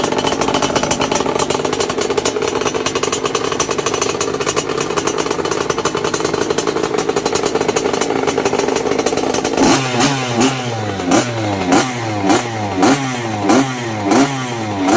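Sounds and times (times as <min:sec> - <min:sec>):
two-stroke engine revving: 0:00.0 - 0:14.9.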